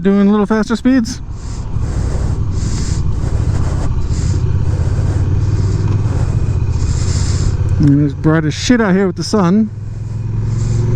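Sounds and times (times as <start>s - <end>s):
motorcycle engine rumble: 0.0s - 10.9s.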